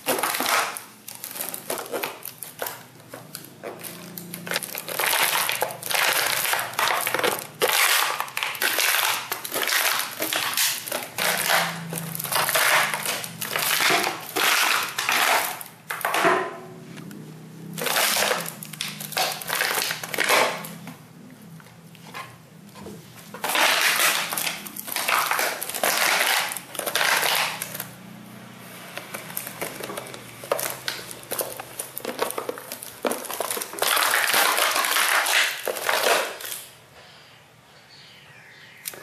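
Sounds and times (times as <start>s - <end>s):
dog chewing plastic bottle: 0.0s - 16.5s, 17.6s - 20.9s, 23.3s - 36.6s.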